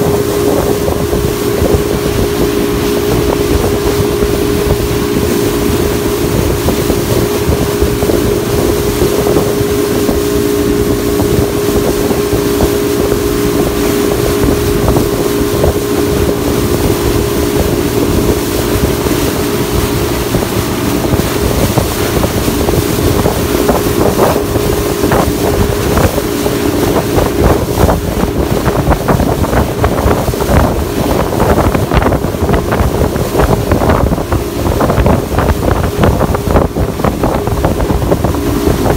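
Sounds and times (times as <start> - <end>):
motorboat engine running: 0.0 - 38.9
water slapping against hull: 0.0 - 38.9
wind buffeting microphone: 0.0 - 38.9.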